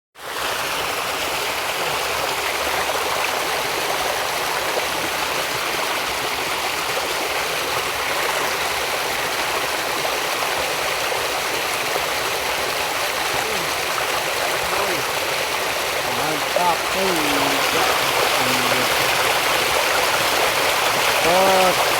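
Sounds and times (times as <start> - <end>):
stream water rushing: 0.2 - 21.9.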